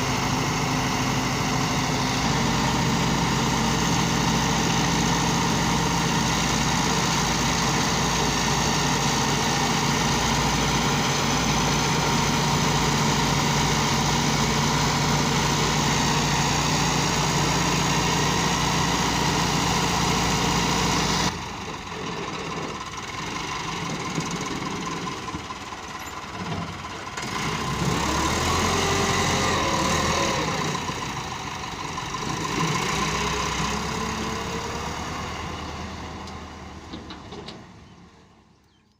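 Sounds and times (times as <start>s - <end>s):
engine rising and falling in pitch: 0.0s - 21.4s, 27.1s - 37.1s
tractor diesel engine running: 0.0s - 38.9s.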